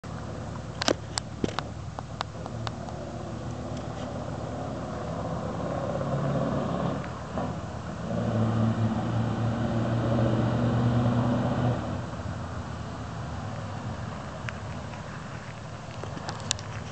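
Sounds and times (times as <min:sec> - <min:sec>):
diesel truck engine: 0:00.0 - 0:16.9.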